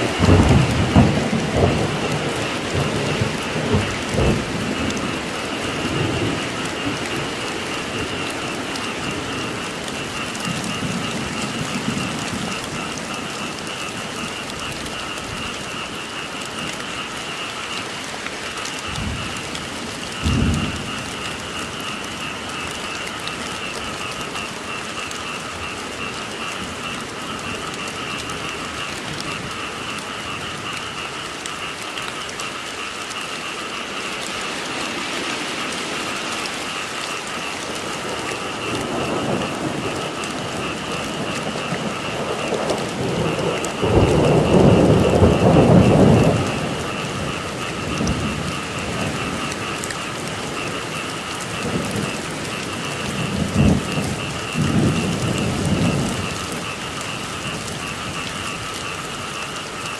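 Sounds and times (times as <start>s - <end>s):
thunder rumbling: 0.0s - 17.5s, 18.5s - 59.9s
frogs calling: 0.0s - 59.9s
steady rain falling: 0.0s - 59.9s.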